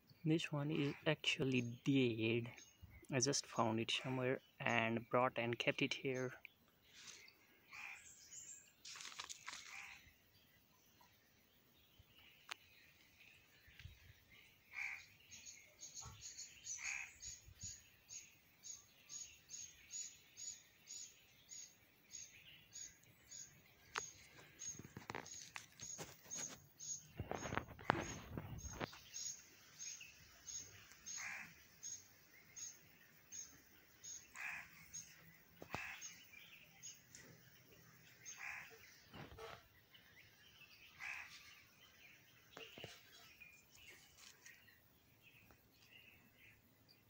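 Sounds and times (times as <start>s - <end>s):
lower falling bird calls: 0.0s - 47.0s.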